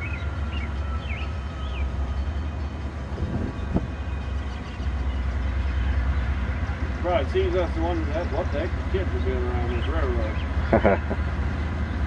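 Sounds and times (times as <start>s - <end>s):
diesel locomotive deep rumble: 0.0s - 12.0s.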